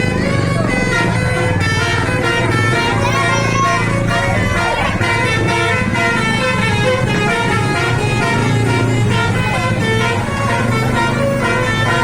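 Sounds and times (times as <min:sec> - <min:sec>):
bus engine low hum: 0:00.0 - 0:12.0
multi-tone bus air horns: 0:00.0 - 0:12.0.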